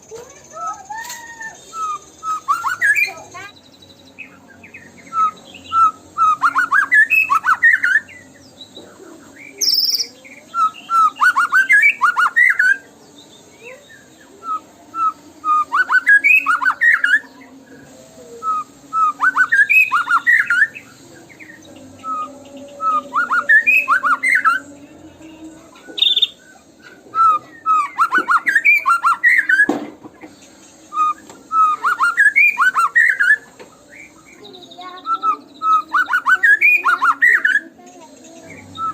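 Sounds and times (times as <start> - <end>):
bird whistled song: 0.0 - 24.7, 25.7 - 38.9.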